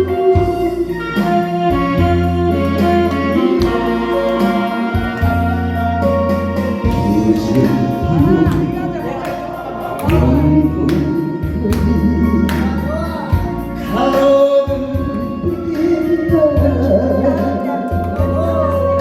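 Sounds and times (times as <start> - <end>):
person singing: 0.0 - 5.6, 6.8 - 19.0
instrumental backing music: 0.0 - 19.0.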